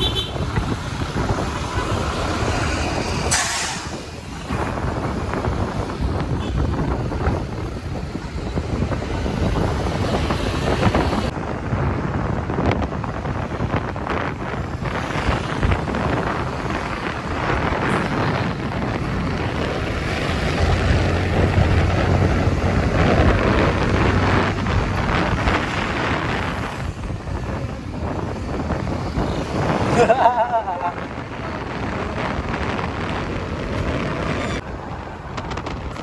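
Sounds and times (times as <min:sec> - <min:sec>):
wind buffeting the microphone: 0:00.0 - 0:36.0.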